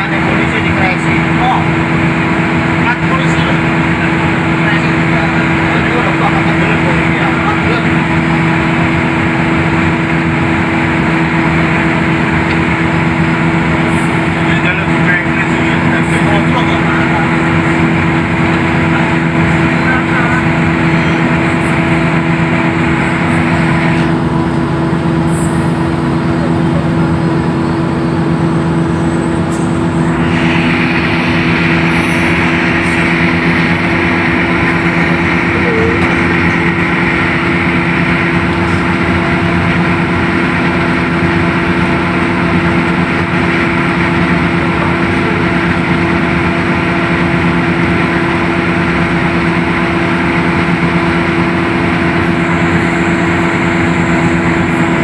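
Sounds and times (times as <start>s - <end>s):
diesel engine drone: 0.0s - 55.0s
road and wind noise: 0.0s - 55.0s.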